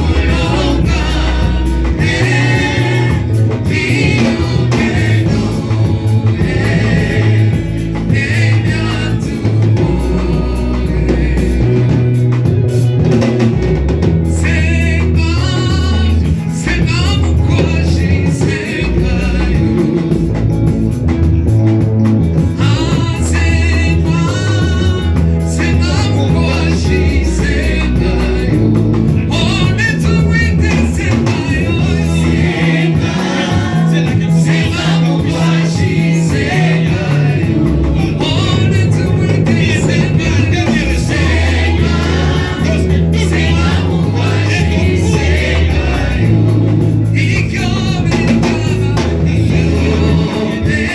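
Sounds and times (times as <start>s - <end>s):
voices singing a hymn: 0.0s - 21.4s, 22.2s - 50.9s
band with bass and drums: 0.0s - 50.9s.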